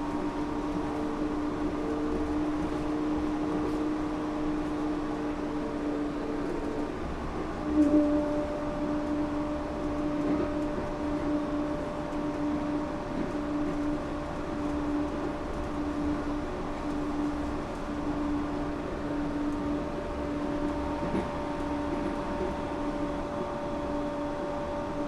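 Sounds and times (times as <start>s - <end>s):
train running gear rumble: 0.0s - 25.0s.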